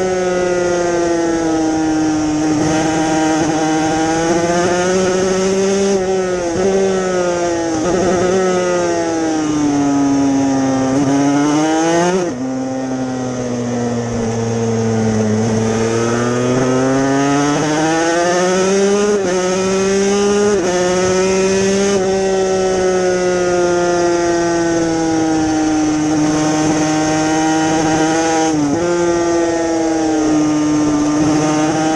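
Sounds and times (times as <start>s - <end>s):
two-stroke motorcycle engine revving: 0.0s - 31.9s.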